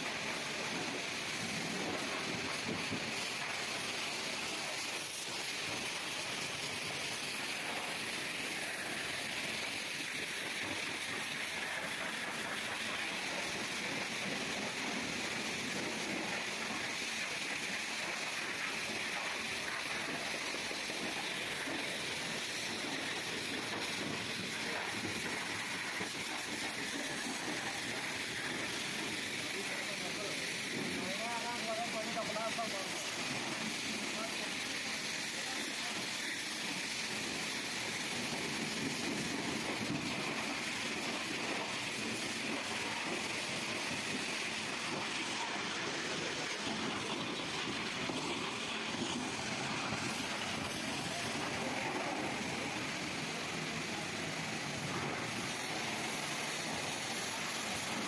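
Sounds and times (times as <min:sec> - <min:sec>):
pressure washer spraying car: 0:00.0 - 0:58.0.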